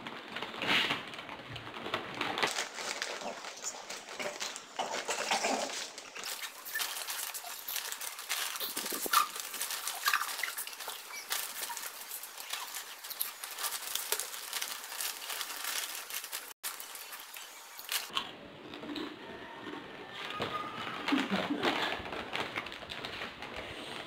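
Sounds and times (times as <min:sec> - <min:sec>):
snack packets crinkling: 0:00.0 - 0:24.0
crunchy chips being eaten: 0:02.1 - 0:23.2.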